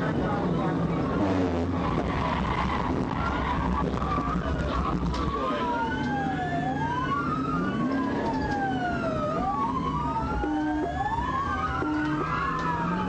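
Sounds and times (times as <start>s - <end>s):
car engine and road noise: 0.0s - 13.0s
police siren wailing: 1.7s - 13.0s.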